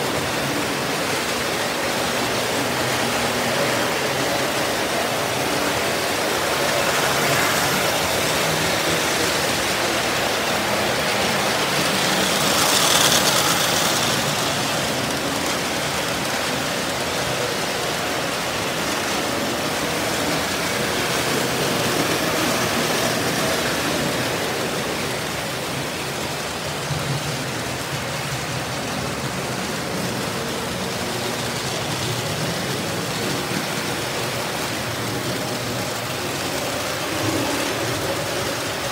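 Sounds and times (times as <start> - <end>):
toy trains rumbling and whirring: 0.0 - 38.9.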